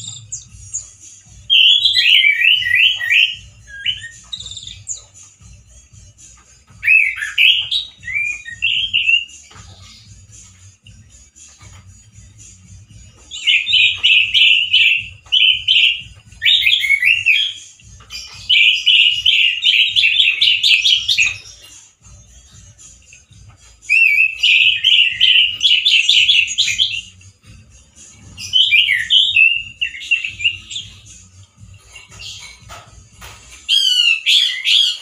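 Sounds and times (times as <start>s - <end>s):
thrush singing: 0.0s - 35.0s.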